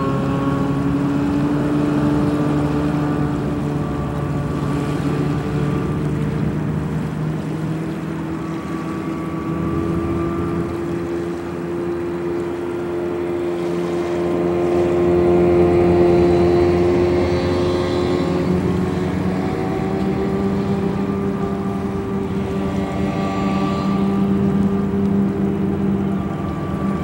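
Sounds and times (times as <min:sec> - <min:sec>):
hovercraft engine and fans: 0:00.0 - 0:27.0.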